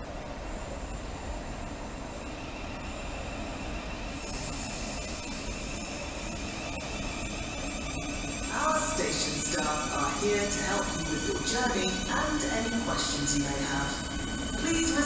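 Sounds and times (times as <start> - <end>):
electric train low rumble: 0.0 - 15.0
train motor whine: 0.4 - 15.0.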